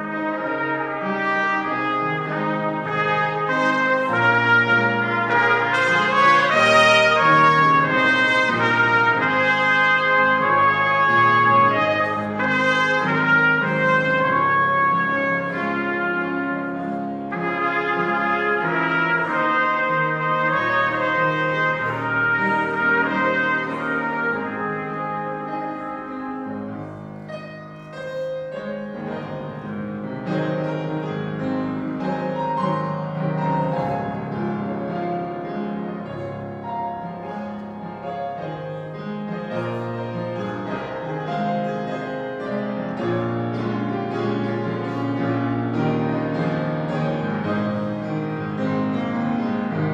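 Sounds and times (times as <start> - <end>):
grand piano accompaniment: 0.0 - 49.9
trumpet melody: 0.0 - 49.9.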